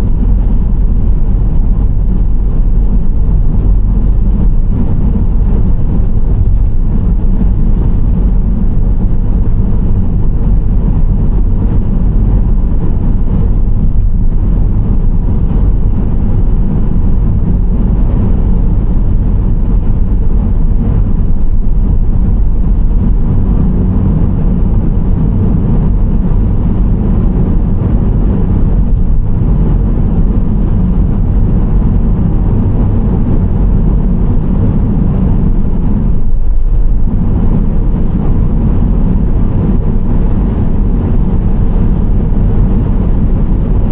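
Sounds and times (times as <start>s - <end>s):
engine drone: 0.0s - 43.9s
road and tyre noise: 0.0s - 43.9s.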